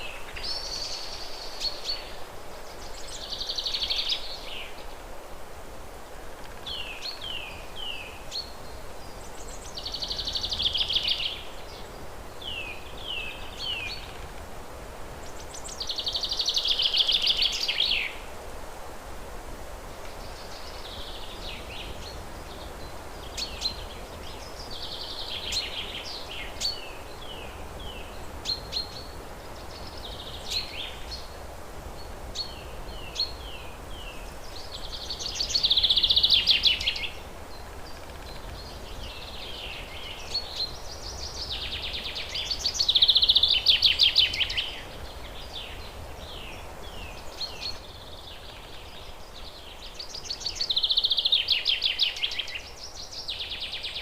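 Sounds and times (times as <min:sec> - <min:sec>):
songbird calling: 0:06.4 - 0:14.4, 0:15.2 - 0:18.2, 0:20.0 - 0:31.4, 0:32.0 - 0:54.0.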